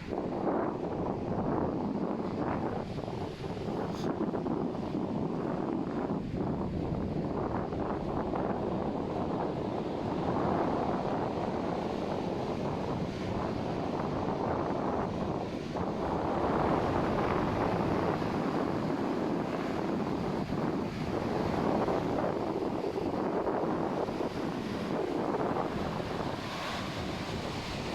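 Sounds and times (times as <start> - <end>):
surf washing onto beach: 0.0 - 27.9
wind rumbling on microphone: 0.0 - 27.9.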